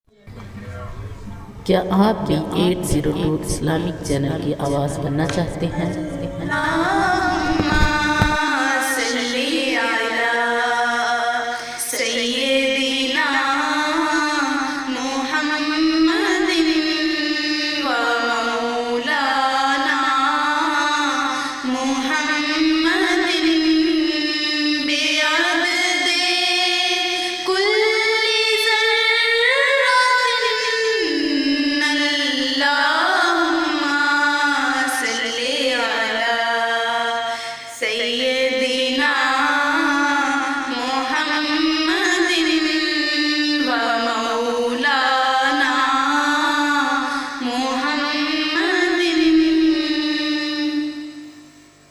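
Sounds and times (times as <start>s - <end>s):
person singing unaccompanied: 2.2s - 51.5s.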